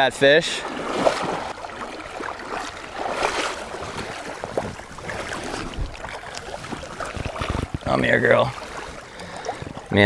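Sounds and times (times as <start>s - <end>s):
creek water splashing: 0.0s - 10.0s.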